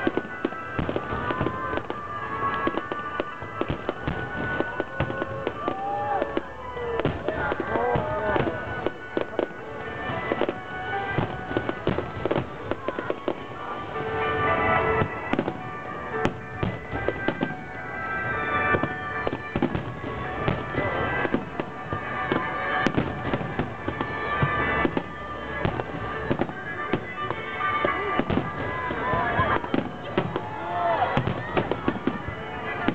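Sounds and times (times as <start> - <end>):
fireworks bangs and crackles: 0.0 - 32.9
music playing: 0.0 - 32.9.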